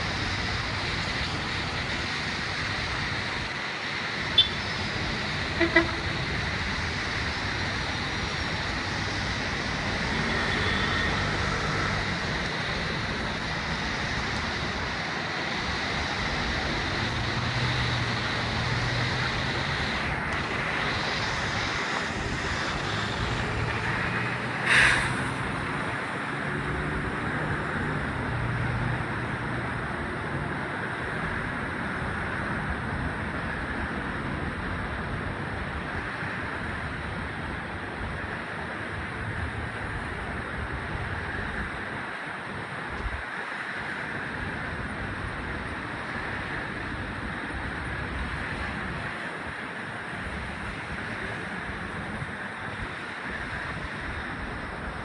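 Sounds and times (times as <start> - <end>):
traffic engines running: 0.0 - 55.0
tyres hissing on wet road: 0.0 - 55.0.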